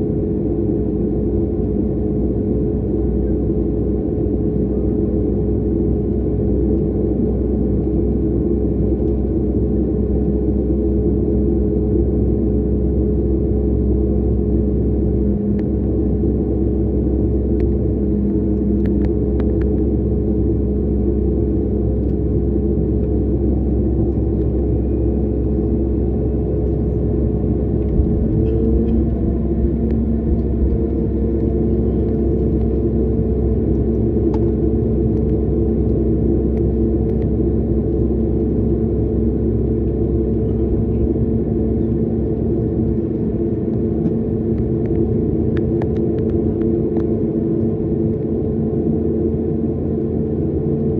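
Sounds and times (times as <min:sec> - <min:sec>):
jet airliner cabin rumble: 0:00.0 - 0:50.9.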